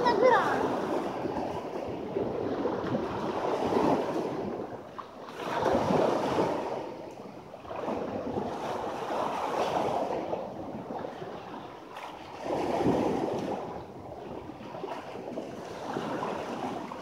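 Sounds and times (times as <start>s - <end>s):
surf breaking on shore: 0.0s - 17.0s.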